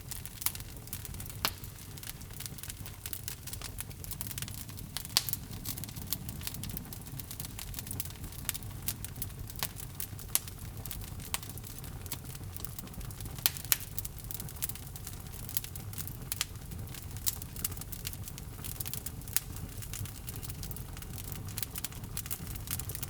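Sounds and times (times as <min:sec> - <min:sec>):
logs burning and crackling: 0:00.0 - 0:23.0.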